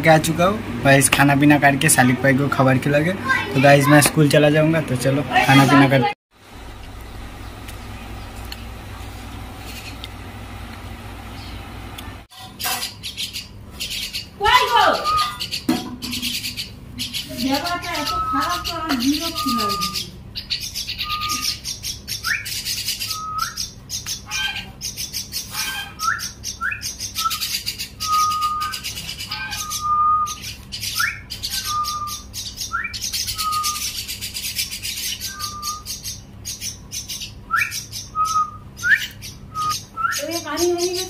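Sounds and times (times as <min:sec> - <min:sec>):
bird chicks chirping: 0:07.2 - 0:41.0.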